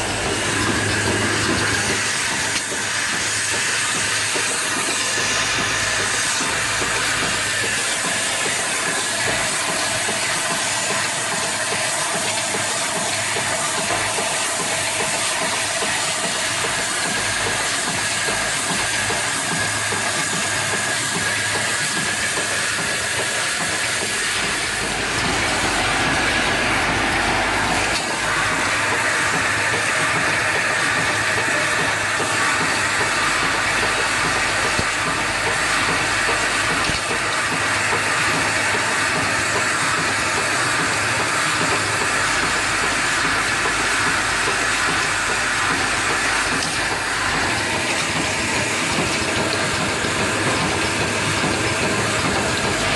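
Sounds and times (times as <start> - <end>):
cap assembling machine running: 0.0 - 52.9.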